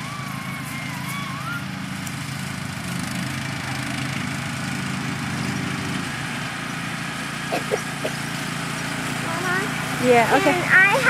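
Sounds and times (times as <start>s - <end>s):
small tractor engine running: 0.0s - 11.0s.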